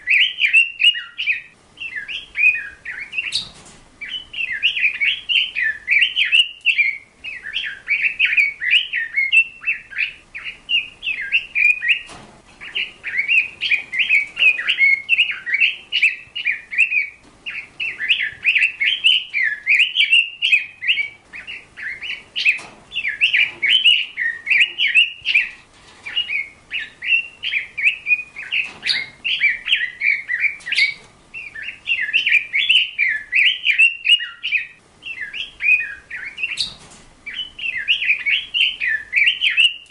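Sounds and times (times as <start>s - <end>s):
bird warbling chirps: 0.0s - 39.9s.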